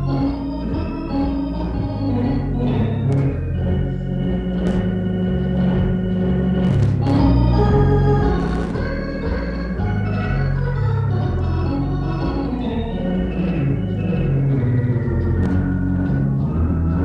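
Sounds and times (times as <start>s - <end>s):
jazz organ playing: 0.0s - 17.0s.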